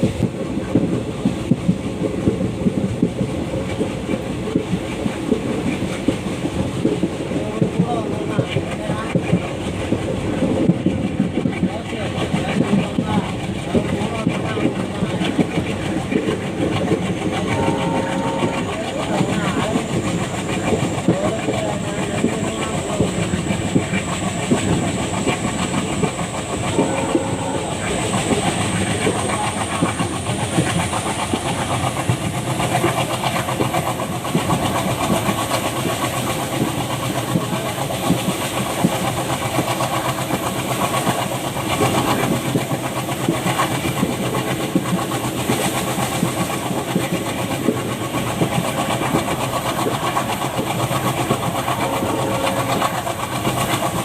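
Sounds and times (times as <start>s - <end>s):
diesel locomotive engine chugging: 0.0s - 54.0s.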